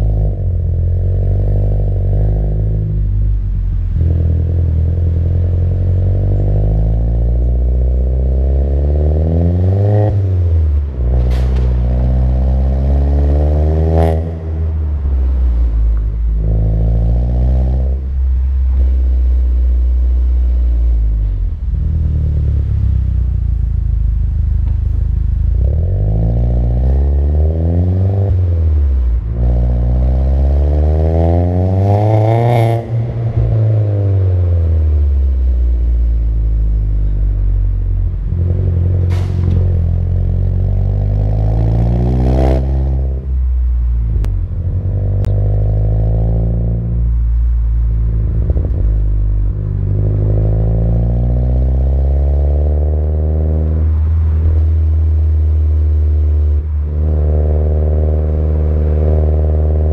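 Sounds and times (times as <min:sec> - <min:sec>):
car exhaust revving: 0:00.0 - 0:59.9.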